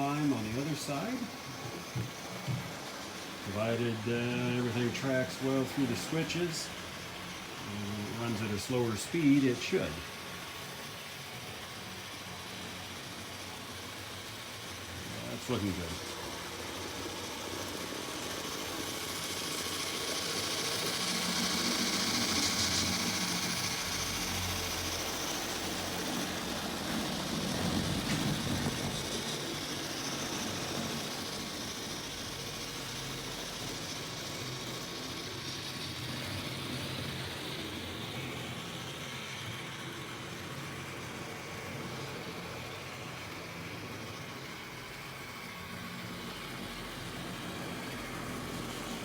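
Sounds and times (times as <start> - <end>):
model train rumbling on track: 0.0 - 49.0.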